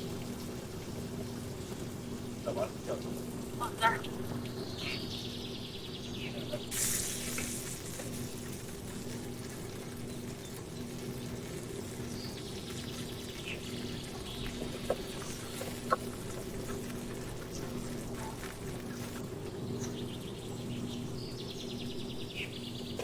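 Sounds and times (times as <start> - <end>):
food sizzling on a barbecue: 0.0 - 22.8.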